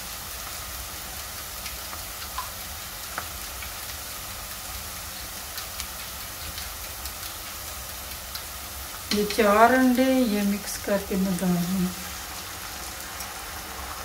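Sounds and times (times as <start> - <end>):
onions frying in oil: 0.0 - 14.0.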